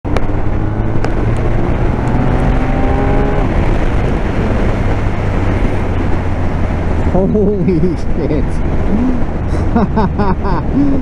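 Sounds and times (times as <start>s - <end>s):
wind noise: 0.0s - 11.0s
motorcycle engine accelerating: 0.1s - 11.0s.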